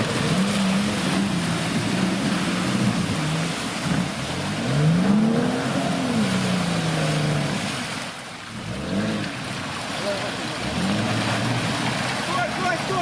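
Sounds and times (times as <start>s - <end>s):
suv engine revving: 0.0s - 12.8s.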